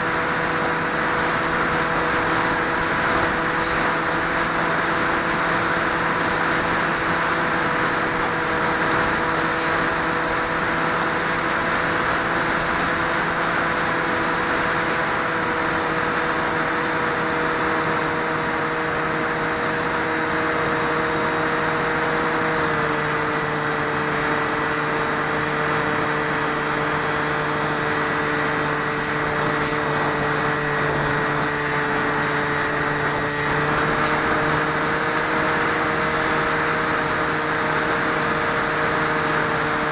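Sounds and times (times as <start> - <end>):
model plane motor droning: 0.0 - 39.9
rushing wind: 0.0 - 39.9.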